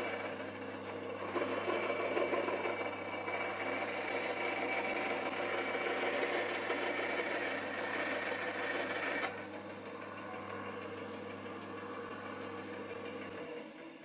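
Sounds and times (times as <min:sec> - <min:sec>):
band saw cutting wood: 0:00.0 - 0:14.0
saw motor humming: 0:00.0 - 0:14.0.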